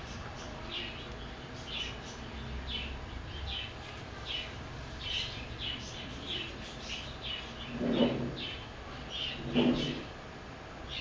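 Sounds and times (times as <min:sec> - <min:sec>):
bird chirping: 0:00.0 - 0:10.1.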